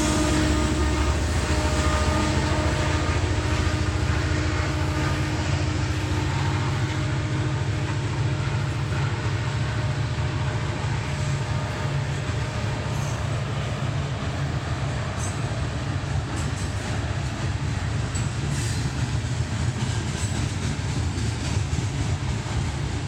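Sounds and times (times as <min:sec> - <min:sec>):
coal train rumbling past: 0:00.0 - 0:23.0.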